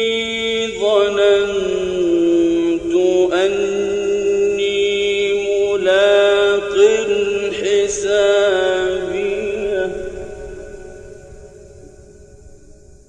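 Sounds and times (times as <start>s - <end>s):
man chanting melodically: 0.0s - 11.2s.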